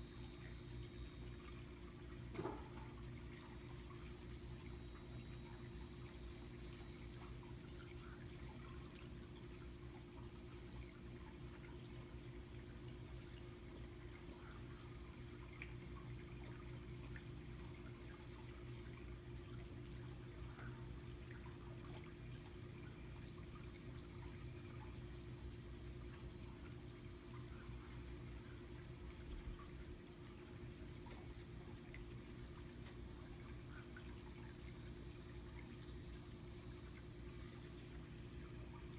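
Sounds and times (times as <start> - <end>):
pump humming: 0.0 - 38.9
water trickling: 0.0 - 38.9.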